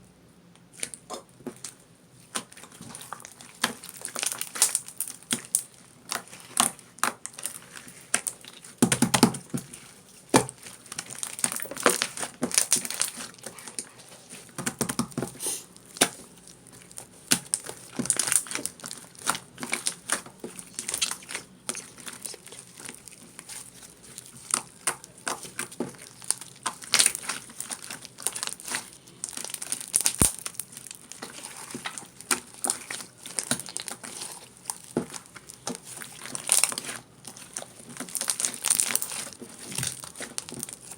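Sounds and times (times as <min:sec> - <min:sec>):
hands crinkling and crackling: 0:00.6 - 0:40.9.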